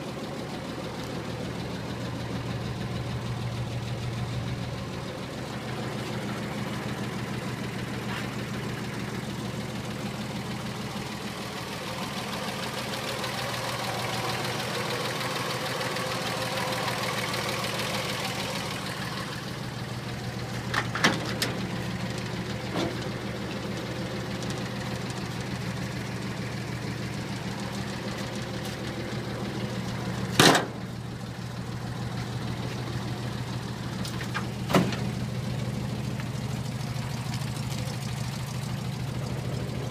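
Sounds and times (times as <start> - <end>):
pickup engine idling: 0.0 - 39.9.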